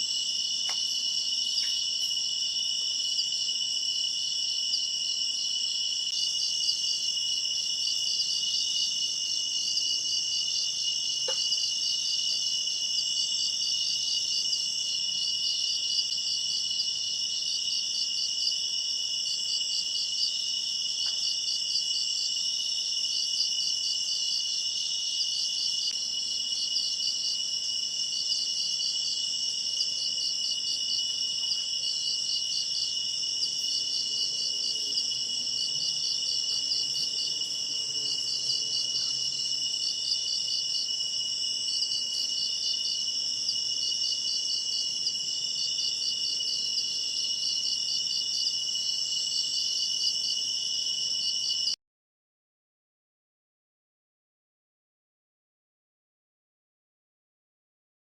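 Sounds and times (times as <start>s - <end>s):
crickets and insects trilling: 0.0s - 51.7s.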